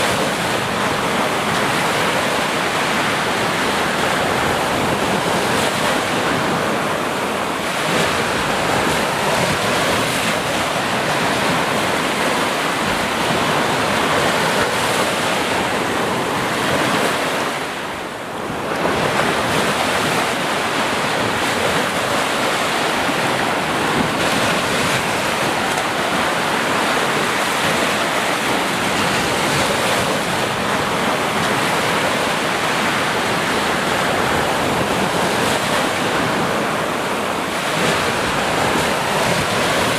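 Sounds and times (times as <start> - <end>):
sea waves surf: 0.0 - 39.9.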